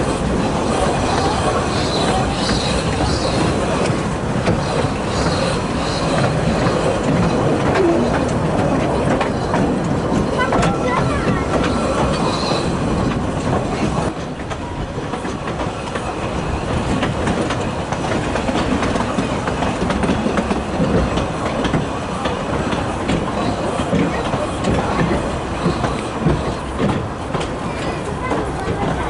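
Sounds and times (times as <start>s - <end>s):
railway carriage rumbling: 0.0s - 29.0s
wheels clicking over rail joints: 0.0s - 29.0s.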